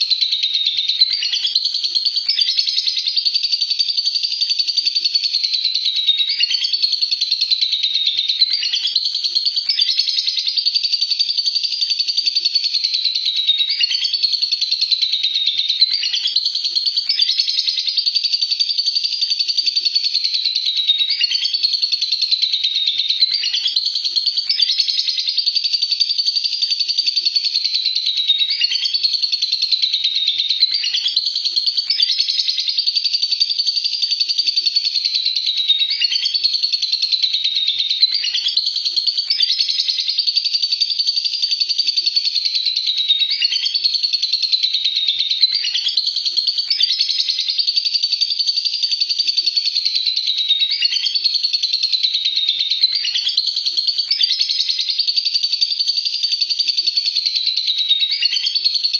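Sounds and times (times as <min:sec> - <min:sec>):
lovebird chattering trill: 0:00.0 - 0:58.9.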